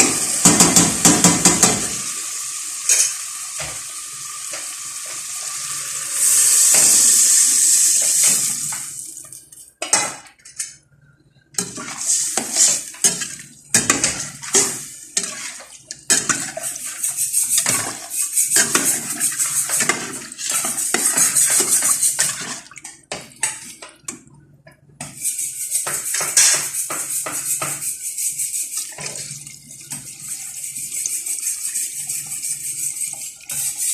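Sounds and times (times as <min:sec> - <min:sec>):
tap water running: 0:00.0 - 0:09.6, 0:11.6 - 0:24.3, 0:25.0 - 0:33.9.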